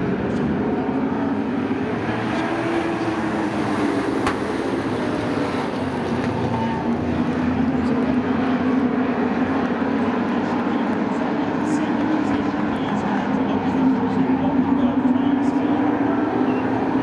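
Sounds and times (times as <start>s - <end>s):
race truck engines droning: 0.0s - 17.0s.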